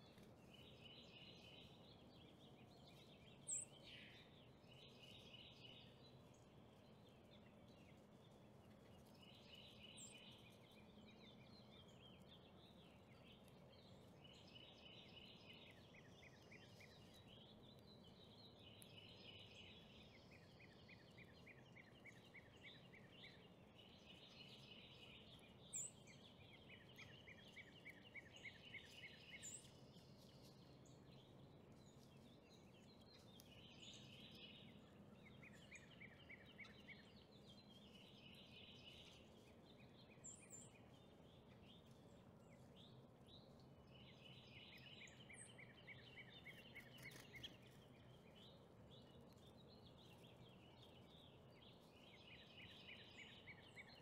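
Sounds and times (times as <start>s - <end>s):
birdsong trills: 0.0s - 54.0s.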